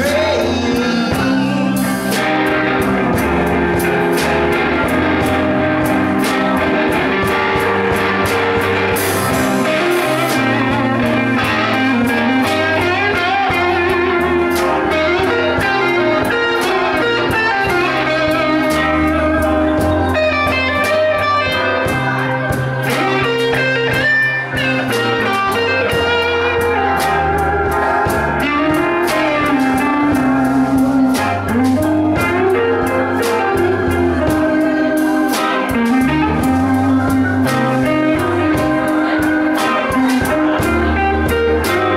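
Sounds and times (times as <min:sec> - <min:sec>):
bass guitar: 0:00.0 - 0:41.9
drum kit with cymbals: 0:00.0 - 0:41.9
electric guitar: 0:00.0 - 0:41.9
keyboard: 0:00.0 - 0:41.9.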